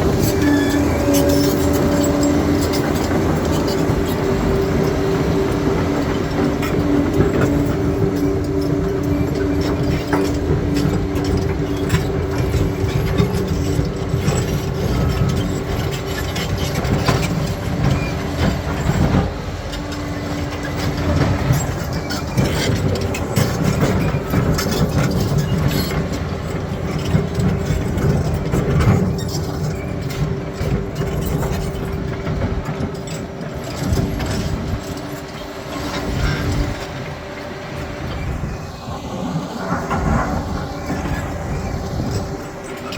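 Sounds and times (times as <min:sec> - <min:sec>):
diesel engine under load: 0:00.0 - 0:42.9
steel tracks clanking: 0:00.0 - 0:42.9.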